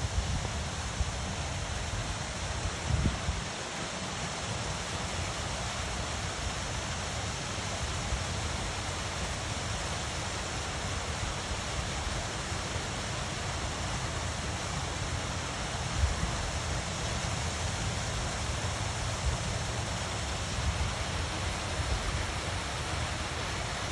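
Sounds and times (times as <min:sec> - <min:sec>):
water rushing in stream: 0:00.0 - 0:23.9.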